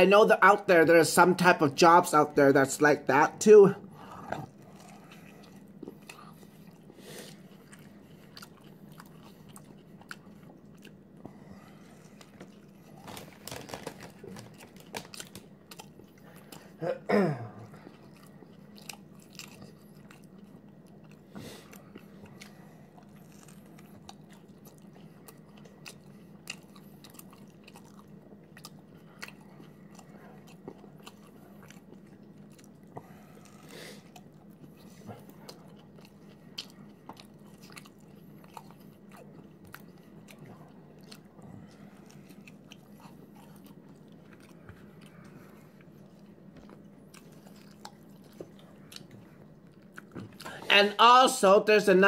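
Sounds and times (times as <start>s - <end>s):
chewing and biting food: 2.7s - 16.8s, 17.6s - 50.7s.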